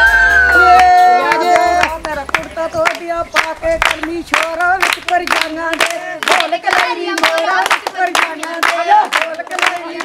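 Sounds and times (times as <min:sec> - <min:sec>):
rhythmic hand-clapping: 0:00.5 - 0:10.0
women singing together: 0:00.7 - 0:10.0.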